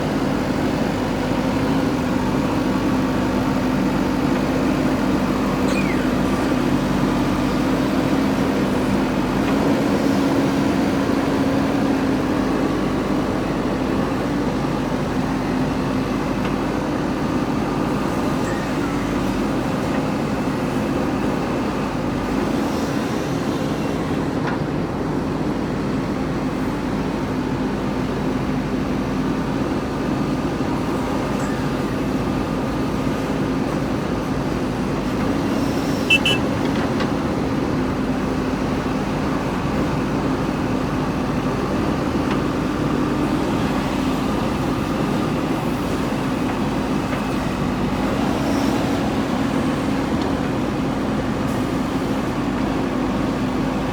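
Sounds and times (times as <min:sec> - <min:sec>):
diesel engine running: 0:00.0 - 0:24.2, 0:29.0 - 0:53.9.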